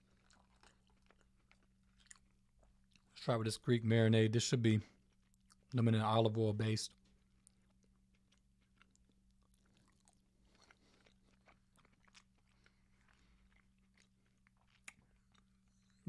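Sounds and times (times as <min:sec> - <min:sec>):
wet chewing and mouth clicks: 0:00.0 - 0:03.2, 0:05.0 - 0:05.9, 0:06.9 - 0:16.0
low electrical hum: 0:00.0 - 0:16.0.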